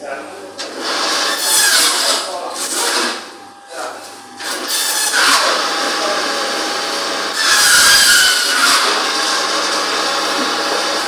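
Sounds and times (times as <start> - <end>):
meat band saw cutting bone: 0.6 - 11.0.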